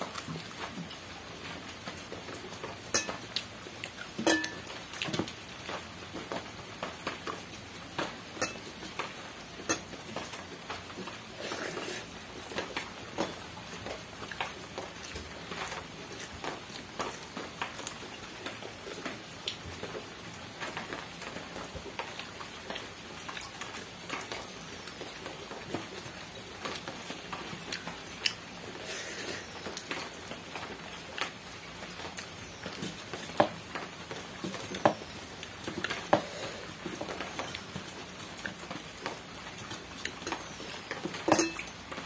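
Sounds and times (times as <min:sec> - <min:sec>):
steady rain pattering: 0:00.0 - 0:42.0.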